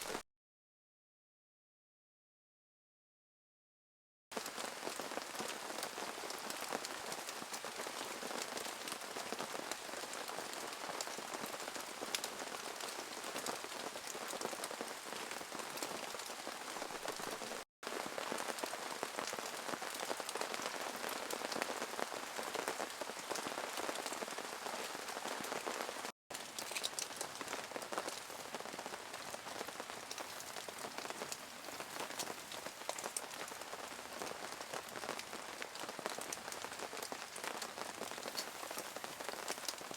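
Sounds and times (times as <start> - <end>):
steady rain falling: 0.0 - 0.2, 4.4 - 39.9.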